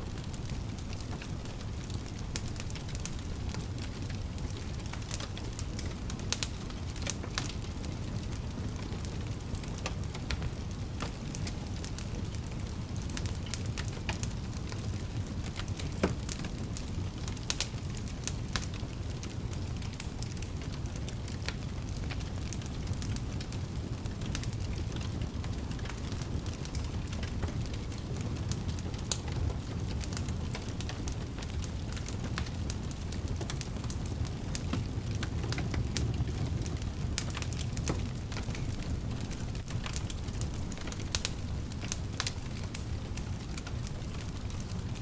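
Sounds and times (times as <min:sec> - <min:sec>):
fire crackling and popping: 0:00.0 - 0:45.0
low rumble of flames: 0:00.0 - 0:45.0.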